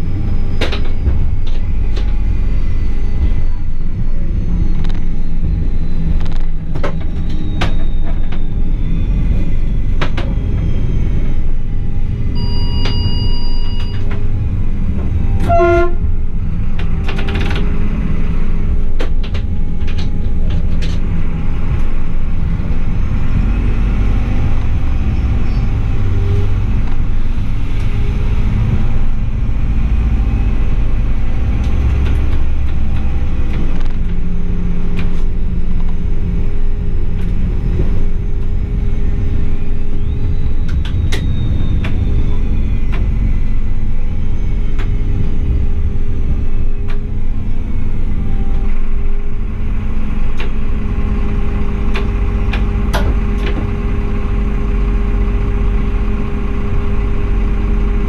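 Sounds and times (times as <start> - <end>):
train rumbling on track: 0.0 - 58.0.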